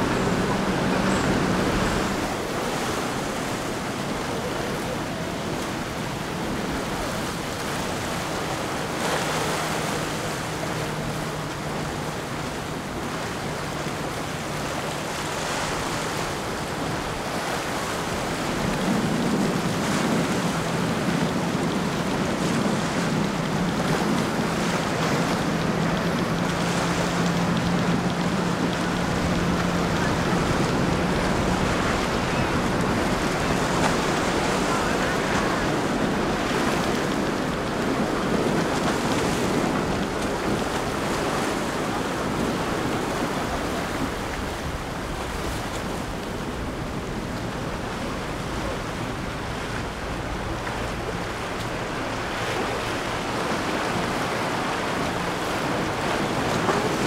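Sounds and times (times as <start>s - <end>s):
boat engine droning: 0.0s - 57.0s
ocean waves breaking: 0.0s - 57.0s
wind on microphone: 0.0s - 57.0s.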